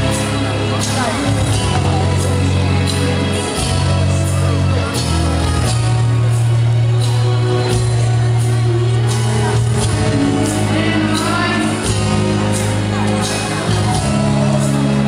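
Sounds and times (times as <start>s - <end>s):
ballroom dance music with singing: 0.0s - 15.0s.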